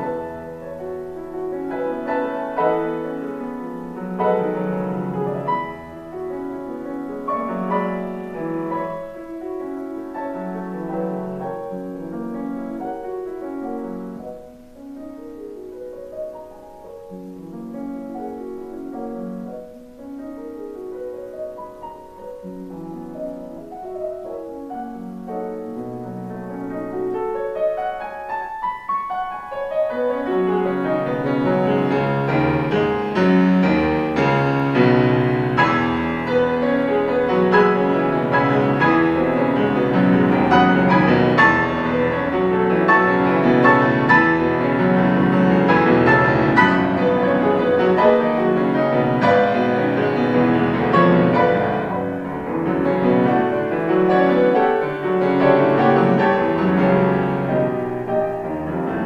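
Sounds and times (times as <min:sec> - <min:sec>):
solo classical piano: 0:00.0 - 0:59.0.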